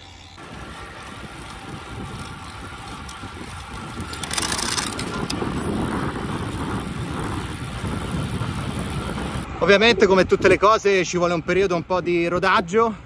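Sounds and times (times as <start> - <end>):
bike tyre hum on asphalt: 0.0 - 12.6
wind across microphone: 0.4 - 12.5.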